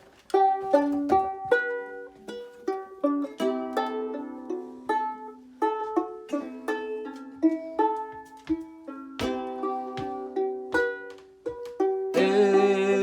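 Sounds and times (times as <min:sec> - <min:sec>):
banjo playing slow tune: 0:00.0 - 0:13.0.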